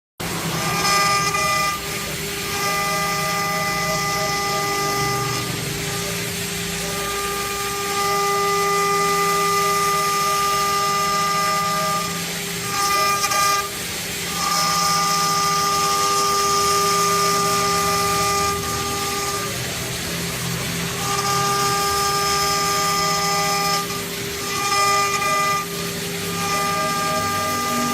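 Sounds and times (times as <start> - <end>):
lathe motors whining: 0.2 - 27.9.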